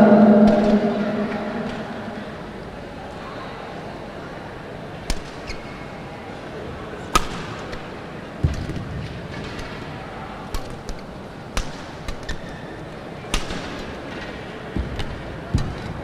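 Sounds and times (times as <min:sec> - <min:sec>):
indoor hall noise: 0:00.0 - 0:16.0.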